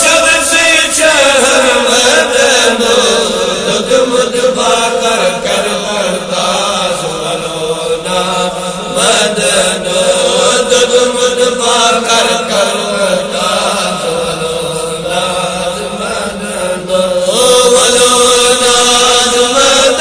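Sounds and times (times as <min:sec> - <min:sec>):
men chanting together: 0:00.0 - 0:20.0.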